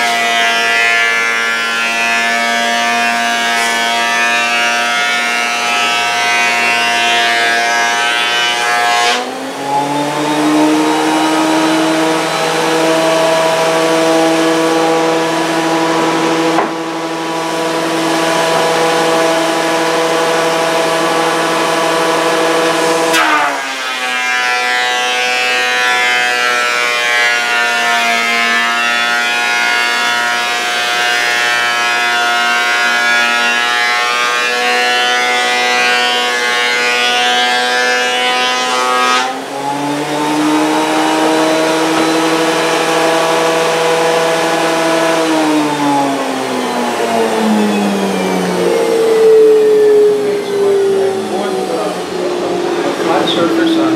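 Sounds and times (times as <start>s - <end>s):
thickness planer motor whine: 0.0s - 53.9s.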